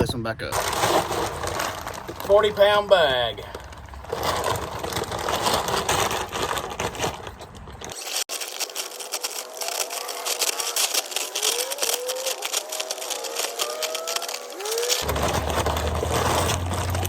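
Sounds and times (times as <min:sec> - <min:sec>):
grain pouring into plastic barrel: 0:00.5 - 0:07.1, 0:08.2 - 0:17.0.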